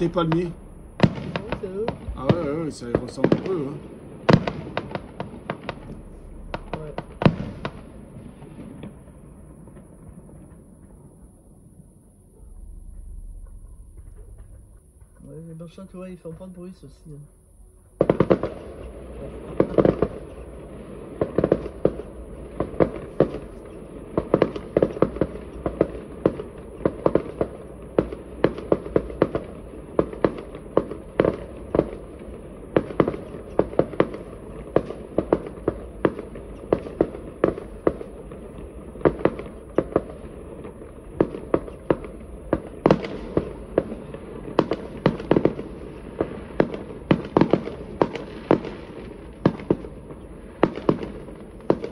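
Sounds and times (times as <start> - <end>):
firework bangs: 0.0 - 11.2, 18.0 - 51.9
low rumble: 0.0 - 47.1.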